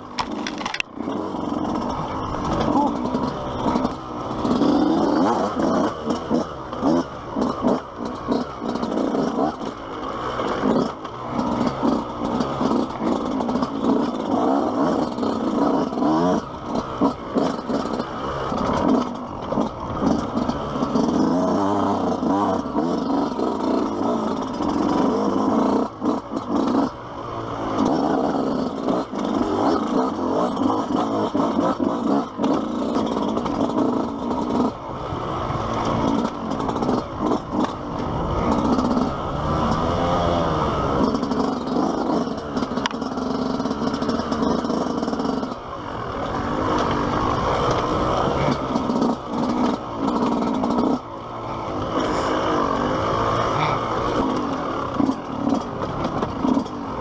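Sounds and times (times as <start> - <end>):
bike rattling over rough ground: 0.0 - 57.0
dirt bike engine revving: 0.0 - 57.0.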